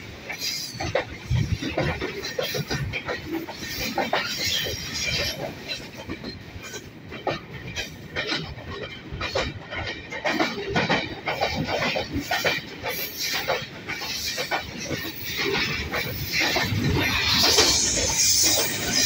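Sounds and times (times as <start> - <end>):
freight train rolling noise: 0.0 - 19.0.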